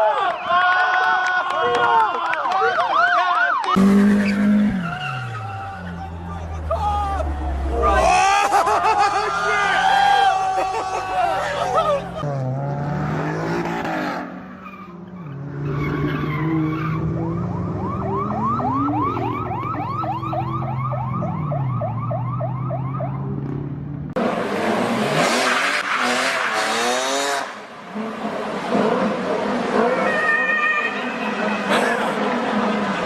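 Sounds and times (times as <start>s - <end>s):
road noise with squeals: 2.8s - 33.0s.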